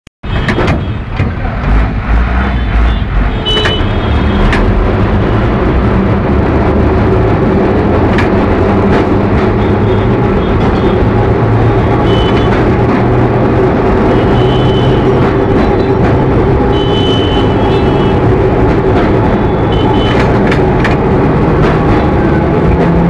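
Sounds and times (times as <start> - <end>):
tram rumbling on rails: 0.2 - 23.0.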